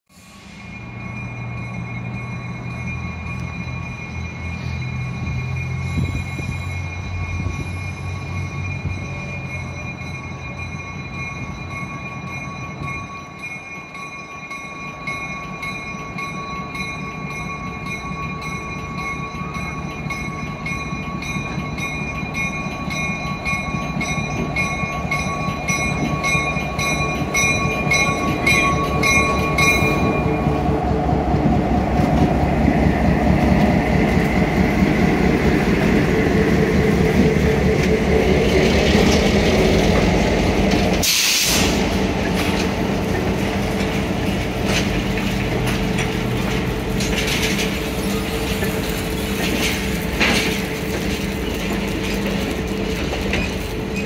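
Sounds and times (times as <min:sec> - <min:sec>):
train rolling noise: 0:00.1 - 0:54.0
locomotive bell ringing: 0:00.2 - 0:54.0
locomotive engine rumble: 0:00.3 - 0:54.0.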